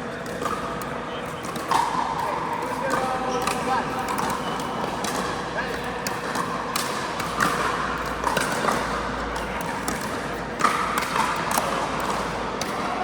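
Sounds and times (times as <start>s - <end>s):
paddles hitting plastic ball: 0.2s - 13.0s.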